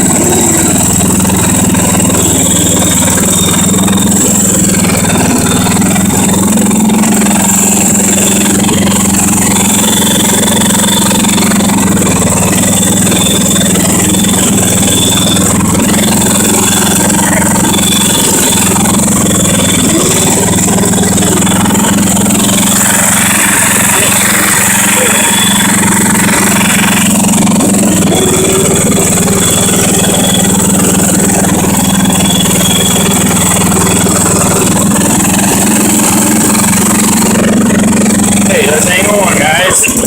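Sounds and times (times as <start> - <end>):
small engine running steadily: 0.0 - 40.0.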